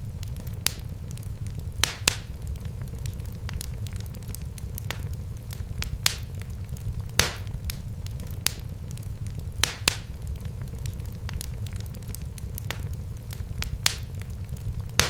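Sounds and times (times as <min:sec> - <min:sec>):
steady low rumble: 0:00.0 - 0:15.0
wood fire crackling: 0:00.0 - 0:15.0.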